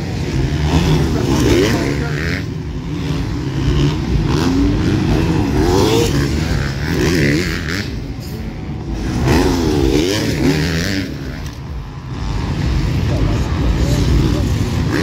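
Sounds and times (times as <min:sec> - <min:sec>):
low rumble of bikes: 0:00.0 - 0:15.0
motocross bike engines revving: 0:00.0 - 0:15.0.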